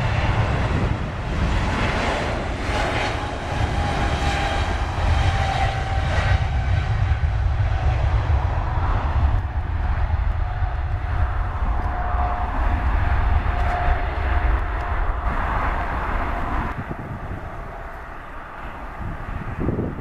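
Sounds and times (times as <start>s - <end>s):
faint turbine whine: 0.0s - 20.0s
jet engines rumbling at takeoff: 0.0s - 20.0s.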